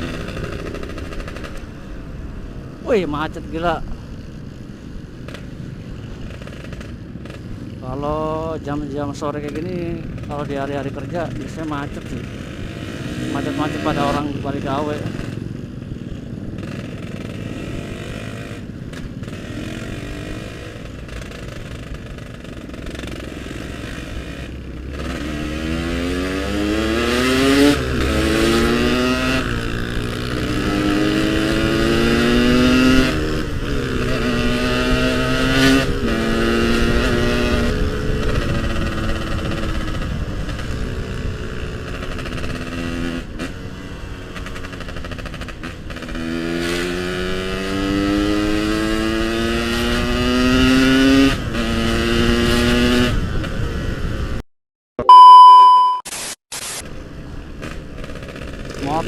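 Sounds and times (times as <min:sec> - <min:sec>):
motorcycle engine revving: 0:00.0 - 0:54.4, 0:57.0 - 0:59.0.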